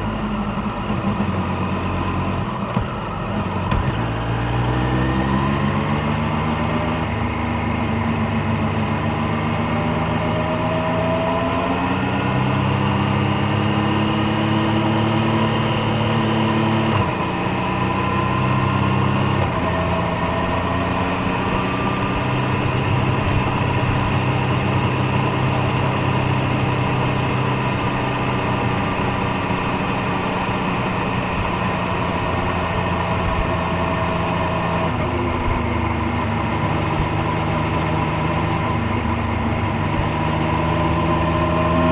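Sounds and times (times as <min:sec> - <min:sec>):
motorcycle engine and exhaust: 0:00.0 - 0:41.9.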